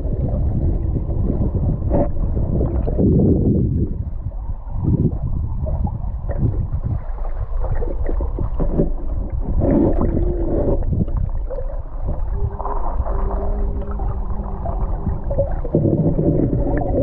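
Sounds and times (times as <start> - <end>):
underwater knocks and clicks: 0.0 - 4.3, 4.9 - 17.0
muffled underwater river rushing: 0.0 - 17.0.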